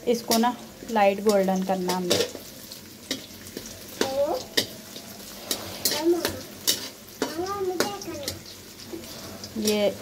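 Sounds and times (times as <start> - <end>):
onions sizzling in hot oil: 0.0 - 10.0
metal spatula scraping a pan: 1.2 - 10.0.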